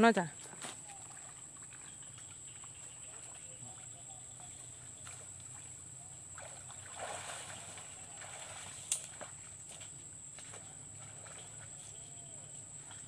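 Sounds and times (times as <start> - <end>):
water sloshing and splashing: 0.4 - 13.0.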